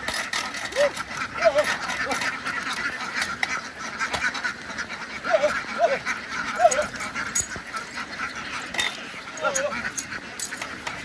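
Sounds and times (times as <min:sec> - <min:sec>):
flock of ducks quacking: 0:00.1 - 0:11.0.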